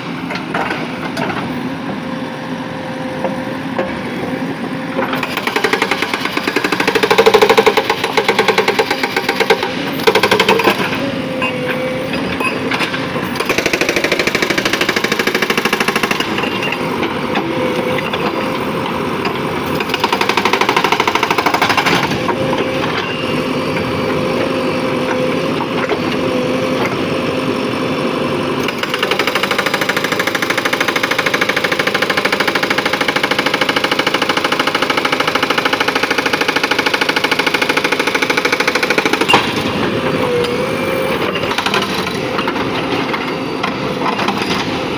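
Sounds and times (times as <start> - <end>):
diesel engine under load: 0.0 - 44.9
hydraulic rock breaker hammering: 4.8 - 27.2, 28.5 - 44.9.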